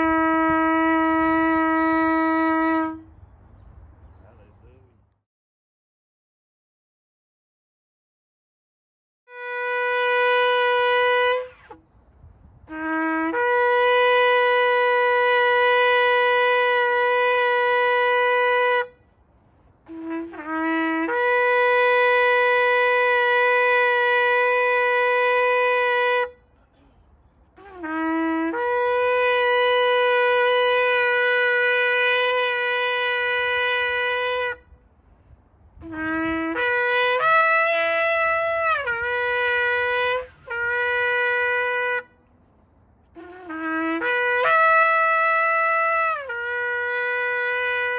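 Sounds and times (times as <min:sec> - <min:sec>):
shofar blasts: 0:00.0 - 0:03.2, 0:09.3 - 0:12.0, 0:12.6 - 0:19.2, 0:19.8 - 0:26.5, 0:27.6 - 0:42.4, 0:43.1 - 0:47.9.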